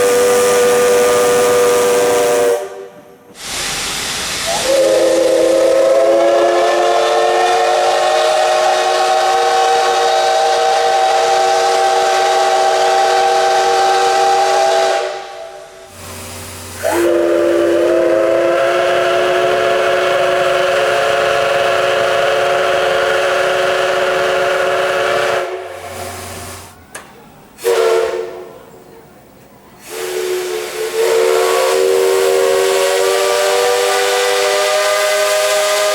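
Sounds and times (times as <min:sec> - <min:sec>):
steam locomotive whistle: 0:00.0 - 0:26.6, 0:27.6 - 0:28.6, 0:29.8 - 0:35.9
steam hissing: 0:00.0 - 0:28.7, 0:29.6 - 0:35.9.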